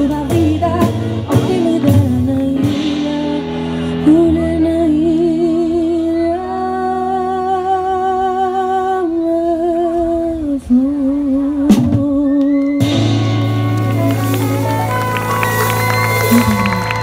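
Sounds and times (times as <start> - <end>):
person singing with vibrato: 0.0 - 15.3.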